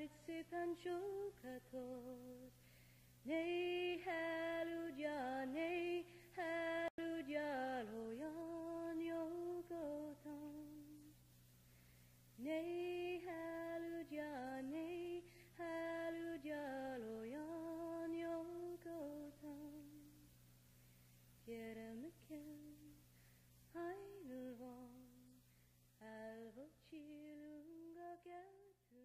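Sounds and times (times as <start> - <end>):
woman singing a lullaby: 0.0 - 2.6, 3.2 - 11.2, 12.4 - 20.4, 21.4 - 29.0.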